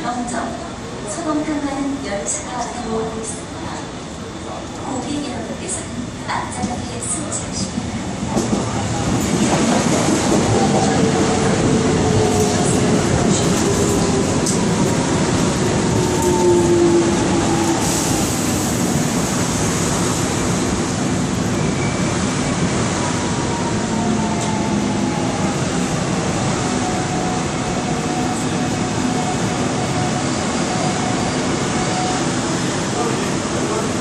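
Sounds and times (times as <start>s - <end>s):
train wheel and track noise: 0.0s - 34.0s.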